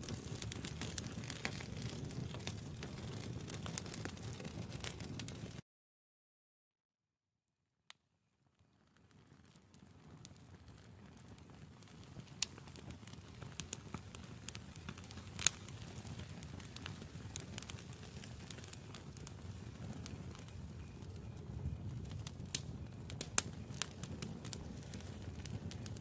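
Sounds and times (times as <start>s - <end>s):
campfire crackling and popping: 0.0s - 5.6s, 8.6s - 26.0s
low rumble of flames: 0.0s - 5.6s, 8.6s - 26.0s.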